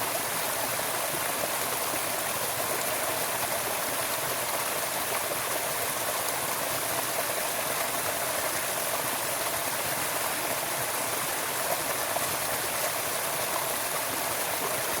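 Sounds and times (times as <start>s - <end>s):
stream of running water: 0.0s - 15.0s.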